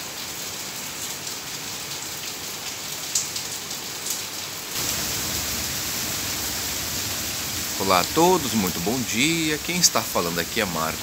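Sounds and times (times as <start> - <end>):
heavy rain on stone: 0.0 - 11.0.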